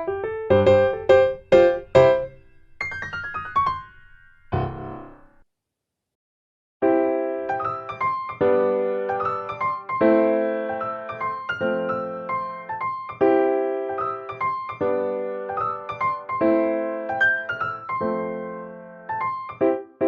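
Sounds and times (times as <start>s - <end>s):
soft piano music: 0.0s - 5.4s, 6.8s - 20.0s.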